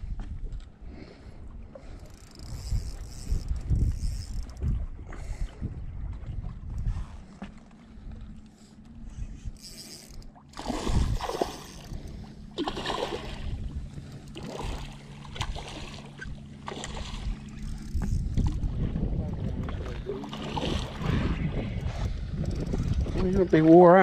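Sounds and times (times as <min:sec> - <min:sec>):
boat motor humming: 0:00.1 - 0:24.0.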